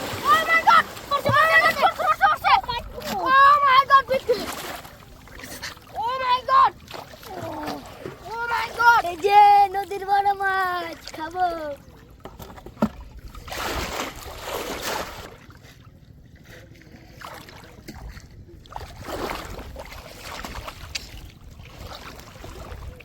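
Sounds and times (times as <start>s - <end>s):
river water sloshing: 0.0s - 23.0s.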